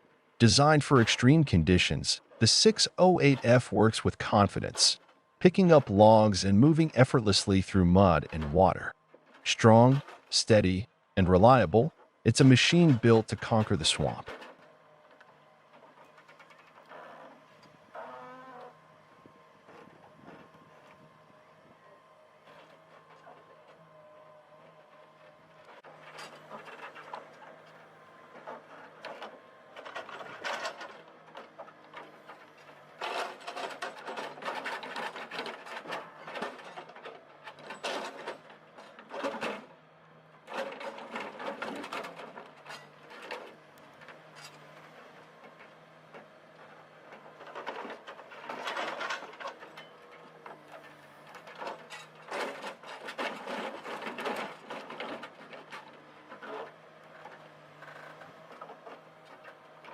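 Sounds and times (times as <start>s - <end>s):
heavy machine engine hum: 0.3s - 59.9s.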